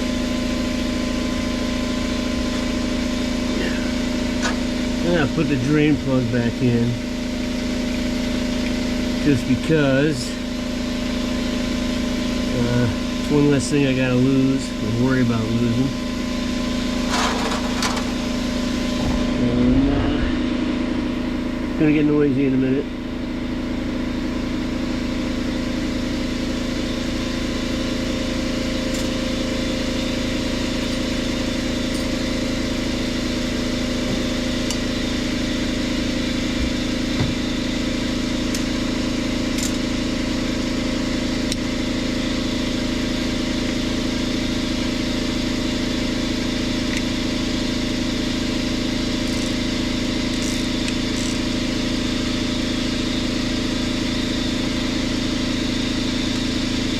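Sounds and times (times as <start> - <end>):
motor-driven machine running: 0.0 - 56.9.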